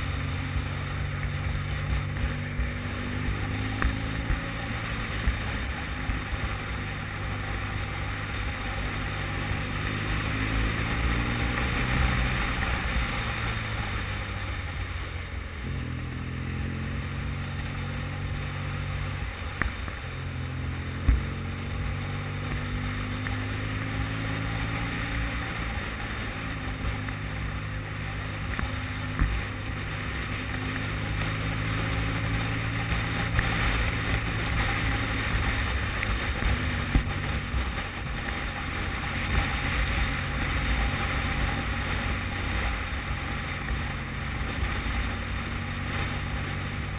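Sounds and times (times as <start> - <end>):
motorcycle engine running: 0.0 - 46.9
wind and tyres on wet road: 0.0 - 46.9.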